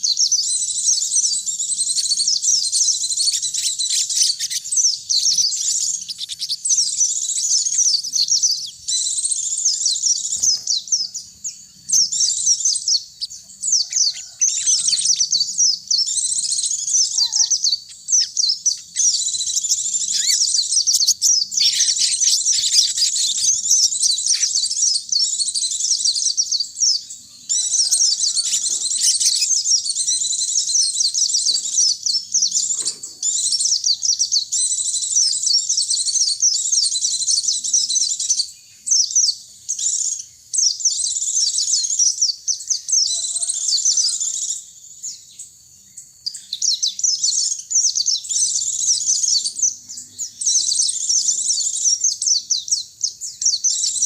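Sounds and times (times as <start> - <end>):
birds twittering: 0.0 - 54.0.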